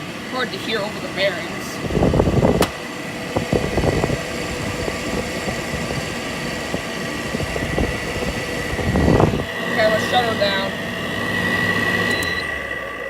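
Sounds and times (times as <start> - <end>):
air conditioner running with whine: 0.0 - 13.0.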